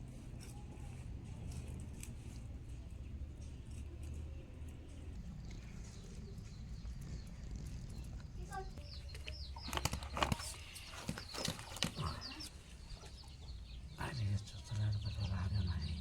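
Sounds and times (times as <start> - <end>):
birds chirping: 2.3 - 16.0.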